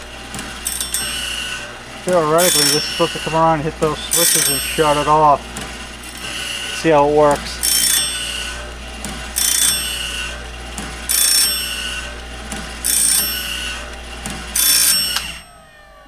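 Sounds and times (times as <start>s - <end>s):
high-pitched grinding burst: 0.0s - 15.9s
blade sharpener motor humming: 0.0s - 16.0s.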